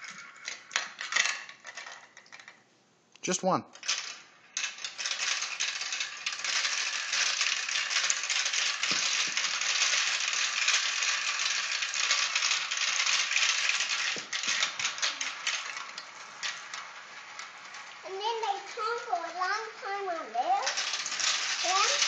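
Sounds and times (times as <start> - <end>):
marbles clattering down plastic track: 0.0 - 2.6, 3.7 - 22.0.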